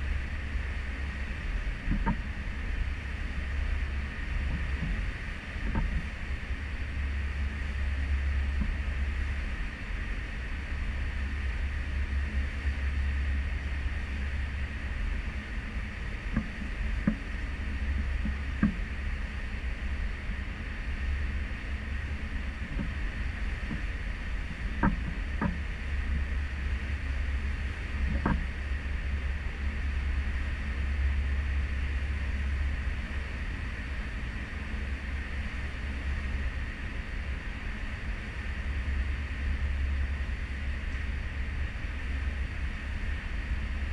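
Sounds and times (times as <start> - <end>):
wake water rumbling and hissing: 0.0 - 43.9
wind: 0.0 - 43.9.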